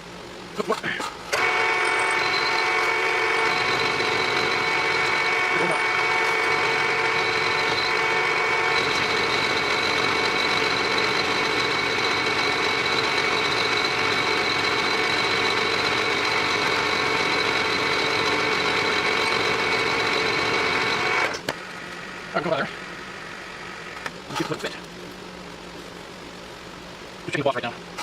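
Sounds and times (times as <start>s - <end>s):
lathe spindle motor whining: 1.3s - 24.2s.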